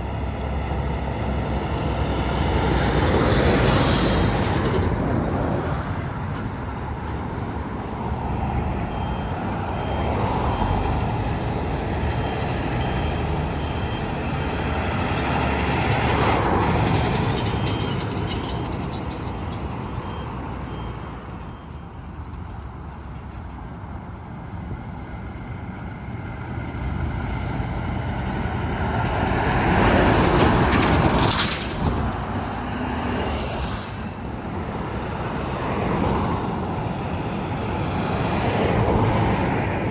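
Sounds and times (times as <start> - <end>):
trucks driving past: 0.0 - 39.9.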